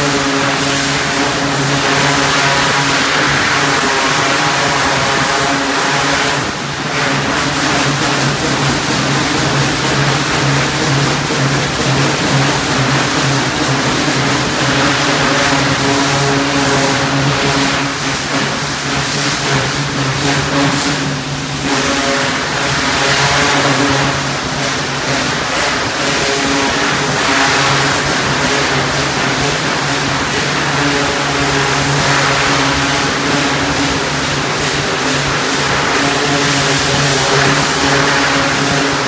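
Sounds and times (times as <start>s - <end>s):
pressure washer engine drone: 0.0s - 39.0s
water jet hissing on floor: 0.0s - 39.0s.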